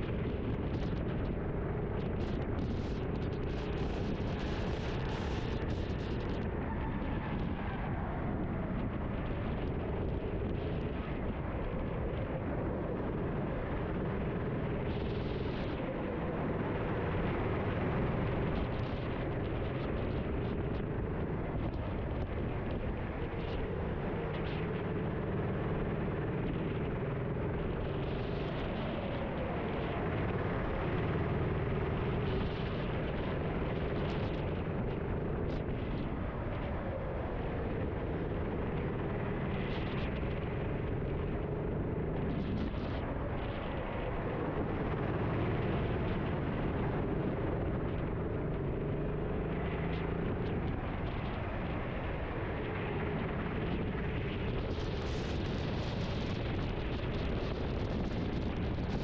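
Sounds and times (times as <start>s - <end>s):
wind and wet track hiss: 0.0s - 59.0s.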